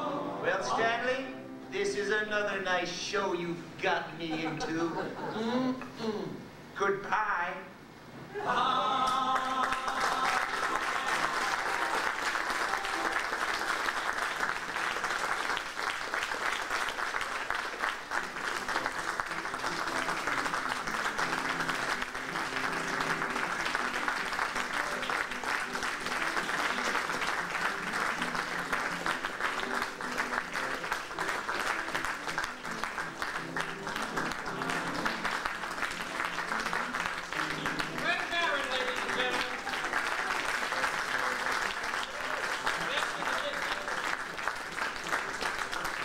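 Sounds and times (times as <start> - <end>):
audience applauding: 8.6 - 46.0.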